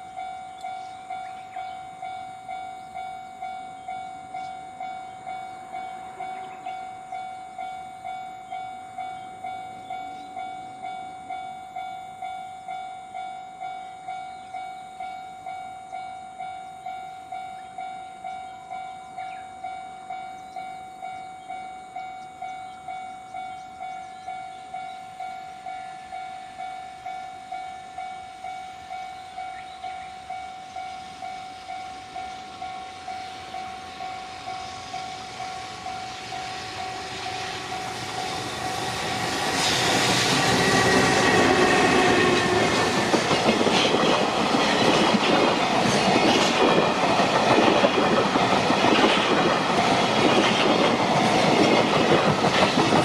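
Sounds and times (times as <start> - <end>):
level-crossing warning bell ringing: 0.0 - 53.0.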